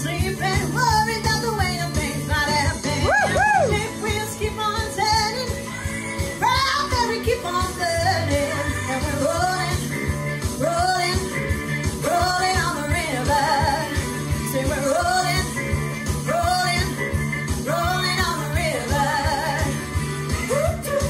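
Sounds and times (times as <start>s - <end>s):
rock and roll backing track: 0.0s - 21.0s
woman singing into a microphone: 0.0s - 21.0s.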